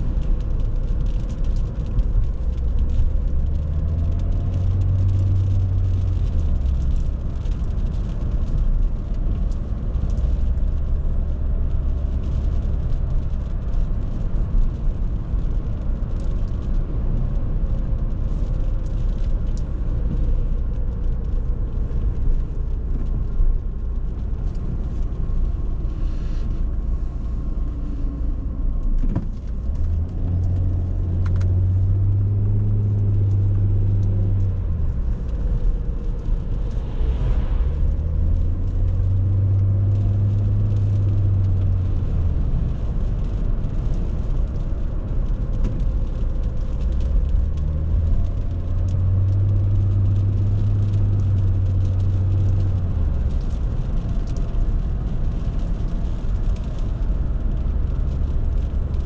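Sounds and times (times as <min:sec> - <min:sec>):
car engine humming: 0:00.0 - 0:59.0
road noise: 0:00.0 - 0:59.0.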